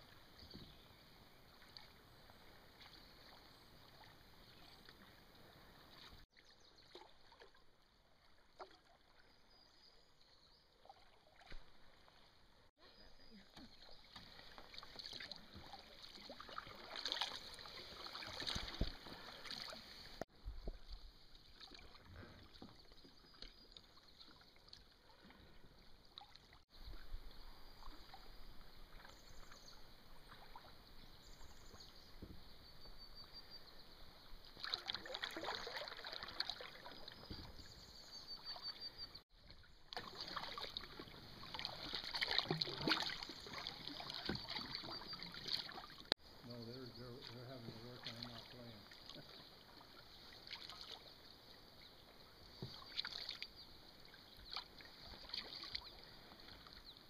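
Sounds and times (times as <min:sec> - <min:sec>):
kayak paddles splashing in water: 0:00.0 - 0:09.6, 0:10.7 - 0:57.0.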